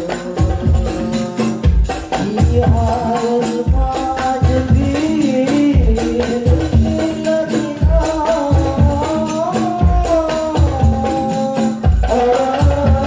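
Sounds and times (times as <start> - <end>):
deep drum beat: 0.0 - 13.0
jingling percussion: 0.0 - 13.0
person singing: 0.0 - 13.0.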